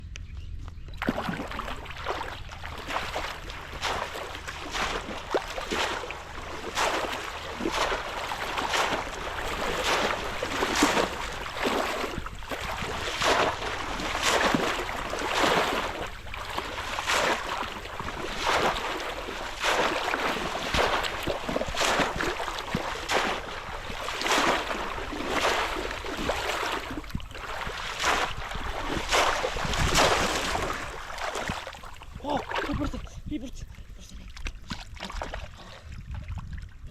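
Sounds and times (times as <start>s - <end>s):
splashing in shallow water: 0.9s - 36.9s.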